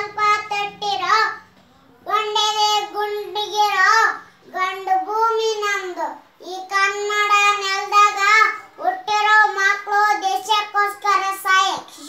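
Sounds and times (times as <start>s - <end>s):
boy singing in high voice: 0.0s - 1.4s, 2.0s - 12.0s.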